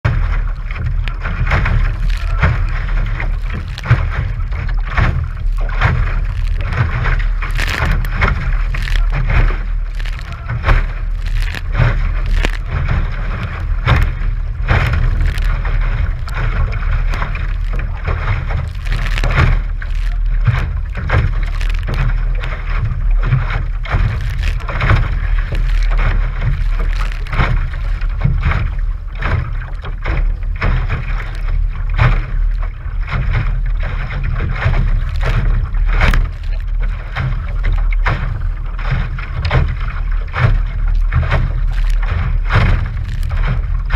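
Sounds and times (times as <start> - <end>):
waves slapping against hull: 0.0 - 43.9
wind buffeting microphone: 0.0 - 43.9.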